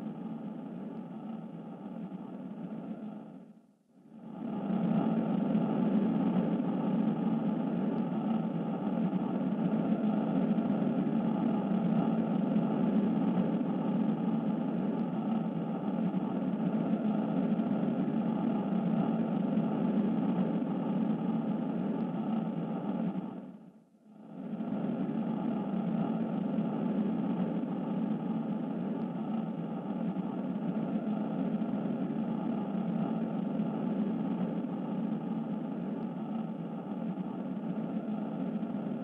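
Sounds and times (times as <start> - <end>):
noisy rumbling drone: 0.0 - 39.0.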